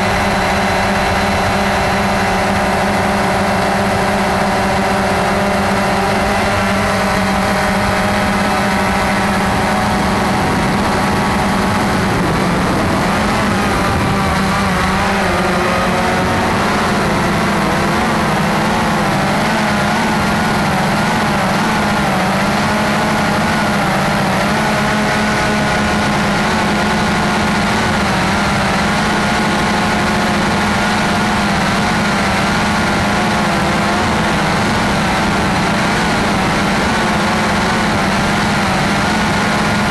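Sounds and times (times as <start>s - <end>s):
drone motors humming: 0.0s - 39.9s.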